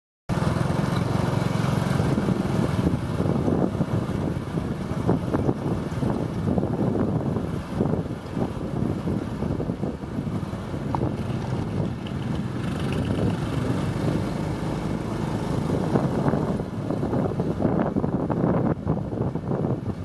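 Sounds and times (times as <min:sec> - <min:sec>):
motorbike engine and road rumble: 0:00.3 - 0:20.0
wind buffeting microphone: 0:00.6 - 0:20.0.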